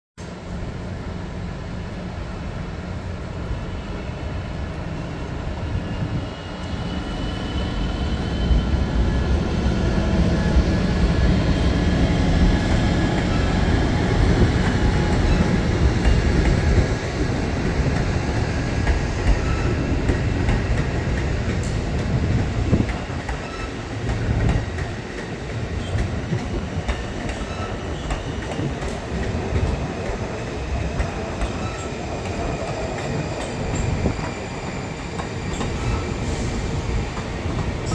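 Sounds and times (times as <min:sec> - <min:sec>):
diesel locomotive passing: 0:00.2 - 0:37.9
train cars rumbling on rails: 0:00.2 - 0:37.9.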